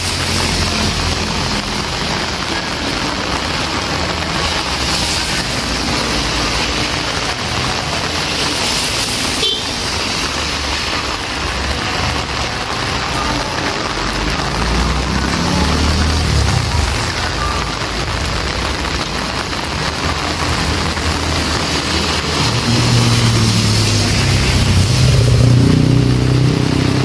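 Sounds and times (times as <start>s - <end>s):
cars driving through water: 0.0s - 27.0s
heavy rain on wet street: 0.0s - 27.0s.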